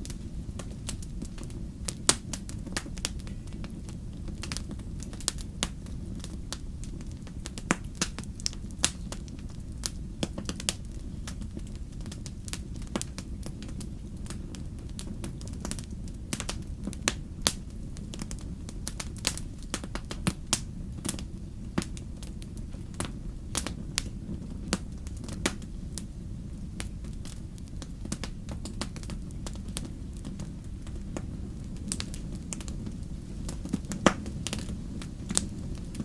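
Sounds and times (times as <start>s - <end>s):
low rumble of flames: 0.0s - 36.0s
wood fire crackling: 0.0s - 36.0s.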